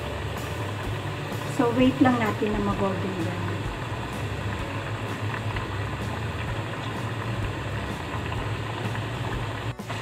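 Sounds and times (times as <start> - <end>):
fries sizzling in hot oil: 0.0 - 10.0.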